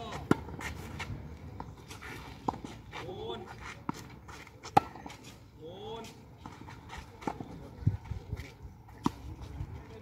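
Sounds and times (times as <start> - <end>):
tennis ball off racket: 0.1 - 5.4, 6.0 - 7.6, 8.4 - 9.5.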